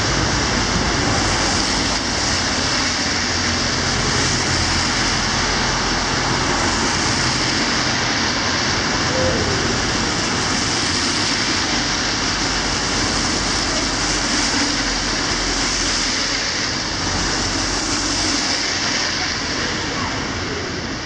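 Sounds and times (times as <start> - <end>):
steady rain on street: 0.0 - 21.0
tyres hissing on wet road: 0.0 - 21.0.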